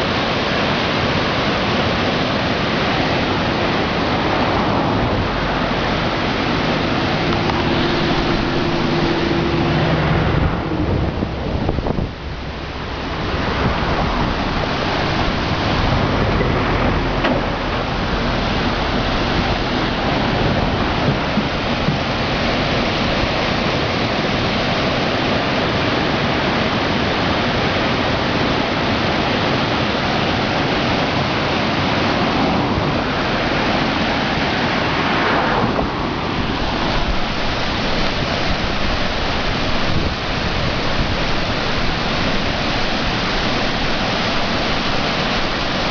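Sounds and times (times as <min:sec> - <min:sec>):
floodwater rushing through weir: 0:00.0 - 0:45.9.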